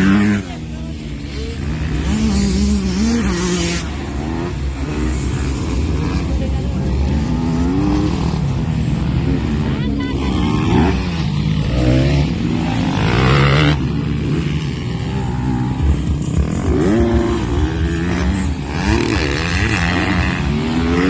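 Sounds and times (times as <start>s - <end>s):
motocross bike engines revving: 0.0s - 21.0s.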